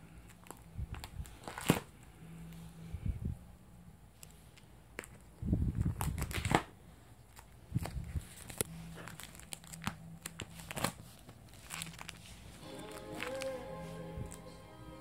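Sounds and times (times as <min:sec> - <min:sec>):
plastic pages crinkling: 0:00.0 - 0:02.1, 0:04.2 - 0:14.6.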